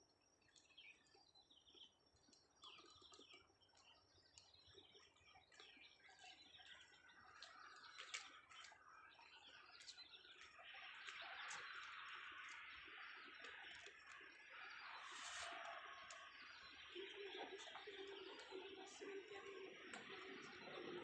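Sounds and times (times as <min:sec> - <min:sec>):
faint birdsong chirps: 0:00.0 - 0:21.0.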